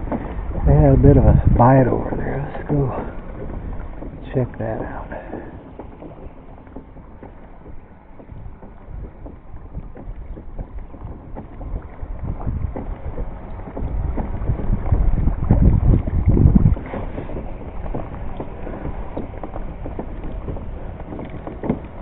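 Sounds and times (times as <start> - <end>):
kayak moving through water: 0.0 - 22.0
wind buffeting microphone: 0.0 - 22.0.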